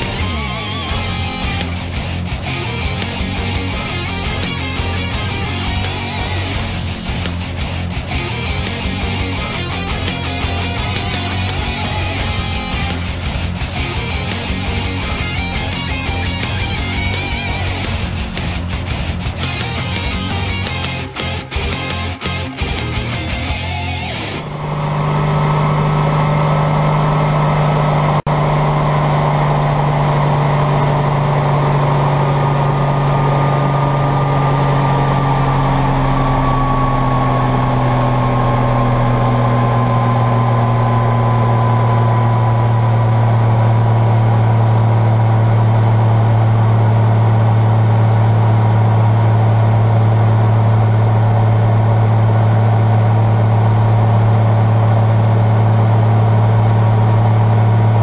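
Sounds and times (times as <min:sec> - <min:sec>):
helicopter engine drone: 0:00.0 - 0:58.0.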